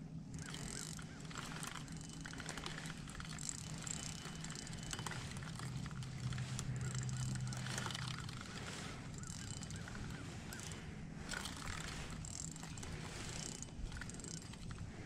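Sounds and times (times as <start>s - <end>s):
low steady hum: 0.0s - 15.0s
fishing reel clicking: 0.3s - 15.0s.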